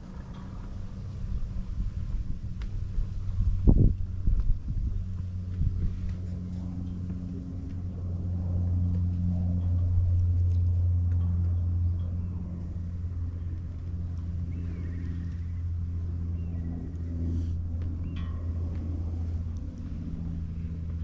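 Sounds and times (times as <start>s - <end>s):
engine low hum: 0.0s - 21.0s.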